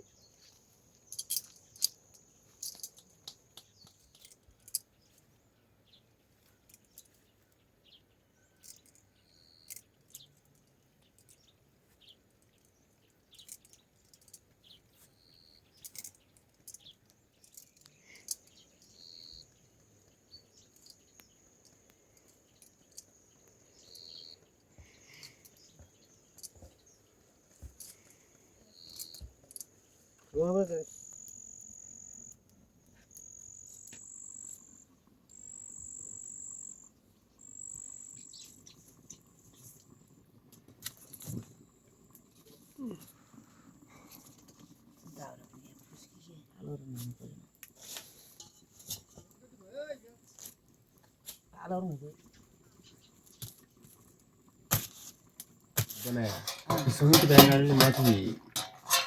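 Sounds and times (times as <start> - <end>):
crickets droning: 0.0 - 5.2, 8.4 - 11.5, 15.1 - 59.0.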